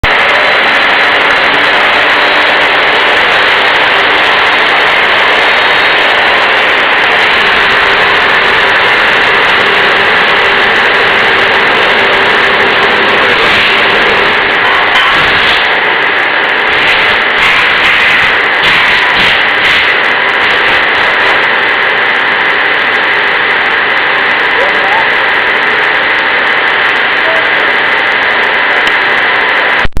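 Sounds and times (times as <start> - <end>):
belt sander grinding metal: 0.0 - 28.2.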